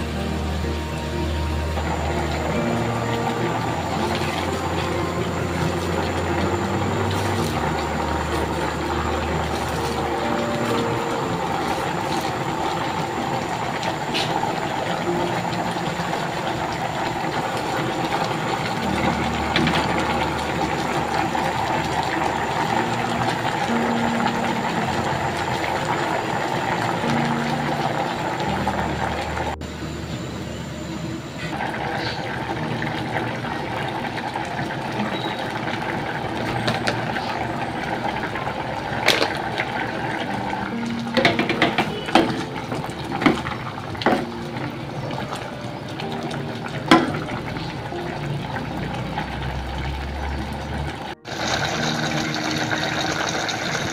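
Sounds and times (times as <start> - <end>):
pot boiling and bubbling: 0.0 - 53.9.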